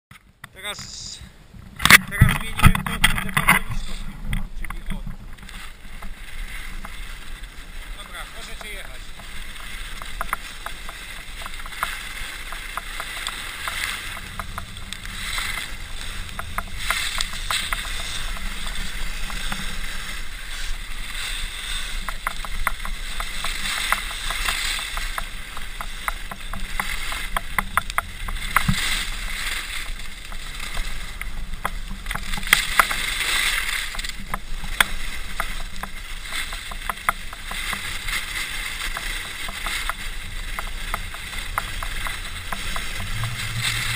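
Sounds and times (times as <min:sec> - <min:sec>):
skis scraping over snow: 0:02.1 - 0:43.9.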